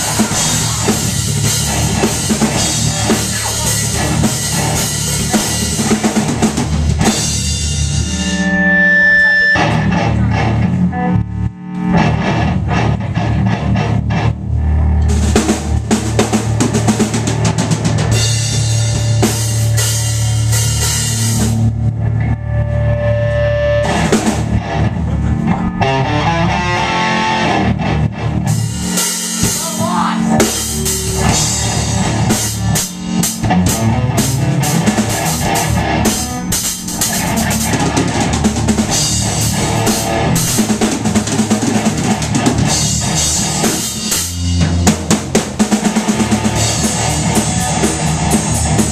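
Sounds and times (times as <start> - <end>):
drum kit with cymbals: 0.0 - 10.5, 15.0 - 21.7, 23.8 - 48.9
electric bass: 0.0 - 48.9
electric guitar: 0.0 - 48.9.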